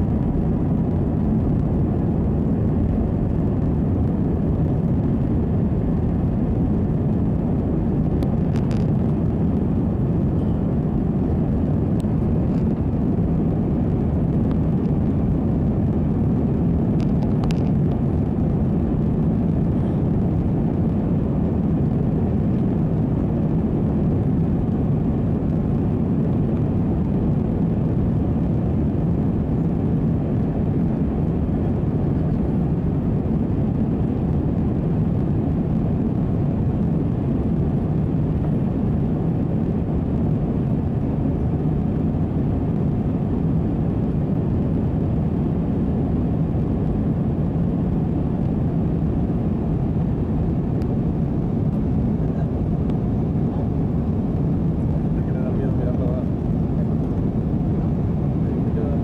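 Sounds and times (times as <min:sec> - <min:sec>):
faint steady hum: 0:00.0 - 0:59.0
jet engines rumbling in cabin: 0:00.0 - 0:59.0.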